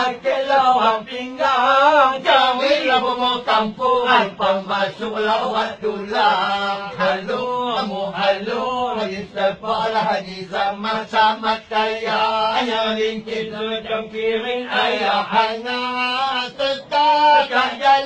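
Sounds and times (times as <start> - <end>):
men singing folk song: 0.0 - 18.0.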